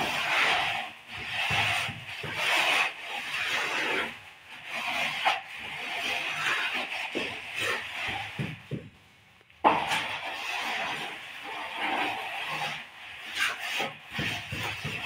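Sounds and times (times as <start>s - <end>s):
straightedge rasping on plaster: 0.0s - 9.0s, 9.6s - 15.0s.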